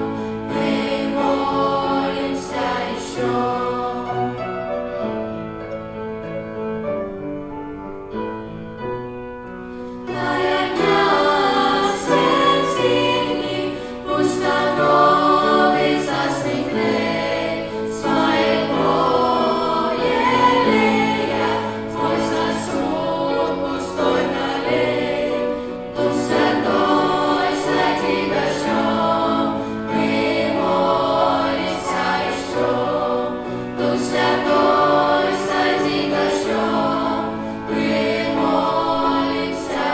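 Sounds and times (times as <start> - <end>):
children's choir singing: 0.0 - 5.2, 10.0 - 39.9.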